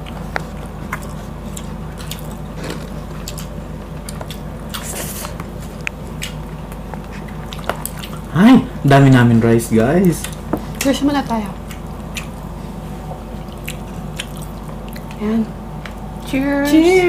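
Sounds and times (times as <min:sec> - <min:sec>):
wet chewing and mouth noises: 0:00.0 - 0:08.4, 0:09.7 - 0:15.2
steady low hum: 0:00.0 - 0:17.0.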